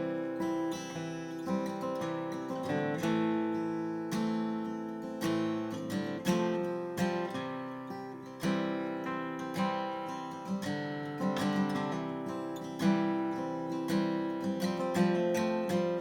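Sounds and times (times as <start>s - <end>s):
acoustic guitar strummed chords: 0.0s - 16.0s.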